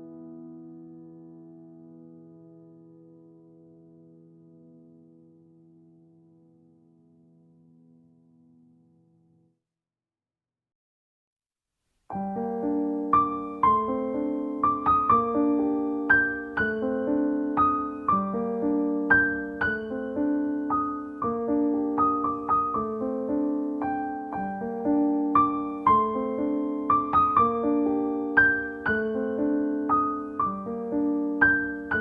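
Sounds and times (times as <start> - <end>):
gentle piano music: 0.0 - 9.5, 12.1 - 32.0.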